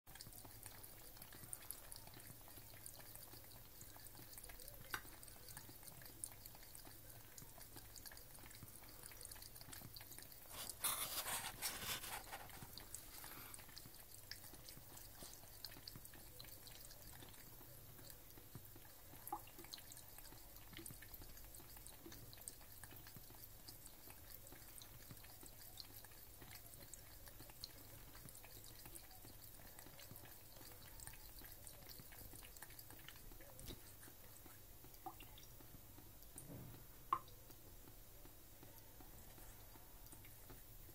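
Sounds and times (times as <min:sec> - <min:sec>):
cat lapping water: 0:00.1 - 0:40.9
small clicks and drips: 0:00.1 - 0:40.9
thin stream of tap water: 0:00.1 - 0:40.9.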